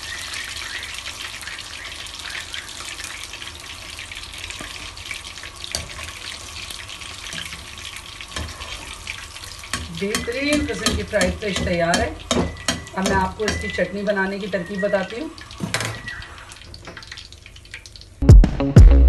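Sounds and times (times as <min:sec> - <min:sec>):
hot oil crackling and sizzling: 0:00.0 - 0:18.2.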